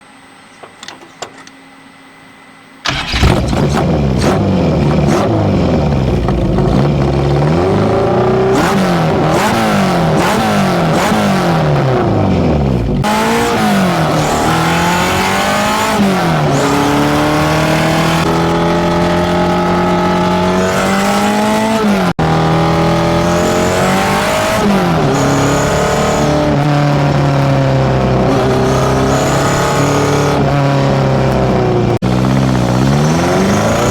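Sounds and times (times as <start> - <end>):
car engine revving: 2.9 - 33.9.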